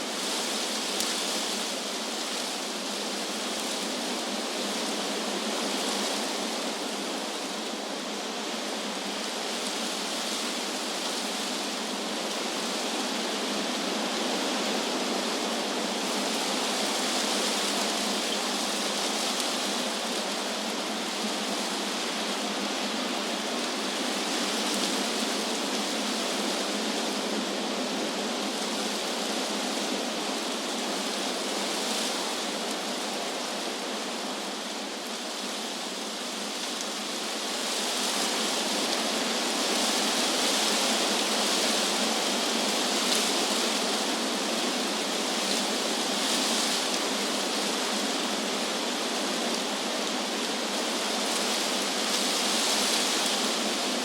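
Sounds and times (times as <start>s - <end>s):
wind rustling leaves in trees: 0.0s - 54.0s.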